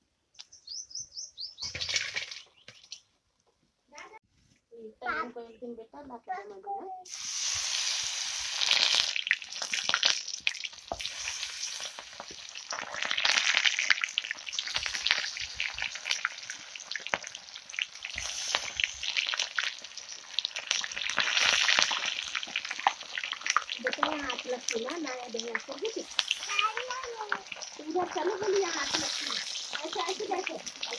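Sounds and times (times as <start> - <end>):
fish deep-frying in hot oil: 1.6 - 3.0, 7.1 - 30.9.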